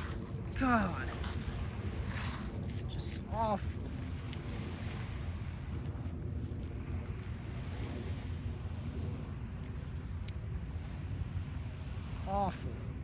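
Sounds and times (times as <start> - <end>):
high insect chirps: 0.0 - 12.3
steady low rumble: 0.0 - 13.0.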